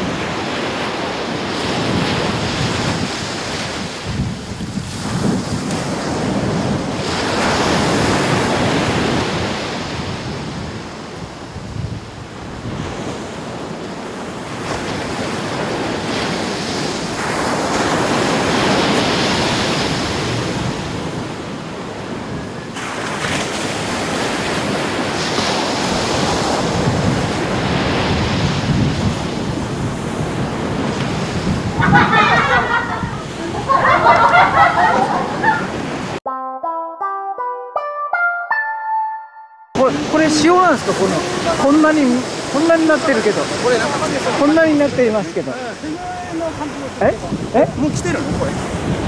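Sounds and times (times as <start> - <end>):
ocean surf breaking on beach: 0.0 - 36.2, 39.8 - 49.0.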